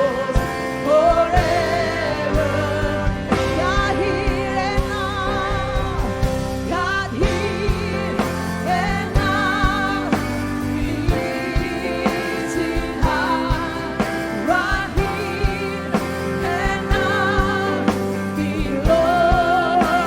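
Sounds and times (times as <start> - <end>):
drum kit steady beat: 0.0 - 20.0
person singing with vibrato: 0.0 - 20.0
sustained keyboard chords: 0.0 - 20.0.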